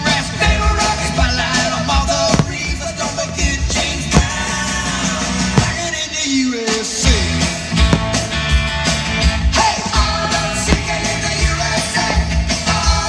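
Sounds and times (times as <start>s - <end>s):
music with steady drum beat: 0.0s - 6.2s, 6.9s - 13.0s.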